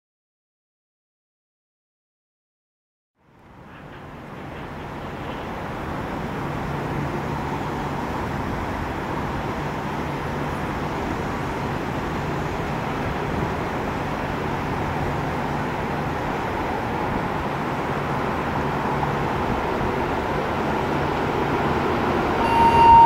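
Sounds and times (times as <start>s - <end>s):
train rumbling on rails: 3.2s - 23.0s.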